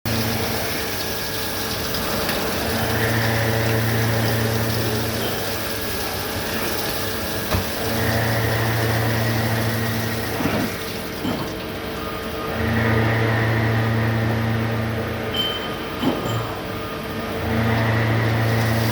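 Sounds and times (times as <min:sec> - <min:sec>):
lathe machine hum: 0:00.1 - 0:15.3, 0:16.8 - 0:18.9.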